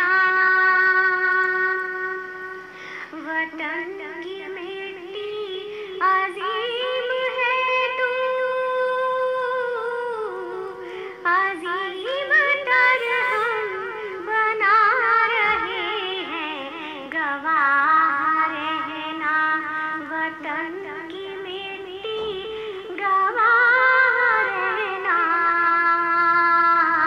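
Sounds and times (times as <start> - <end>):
high voice singing: 0.0 - 27.0.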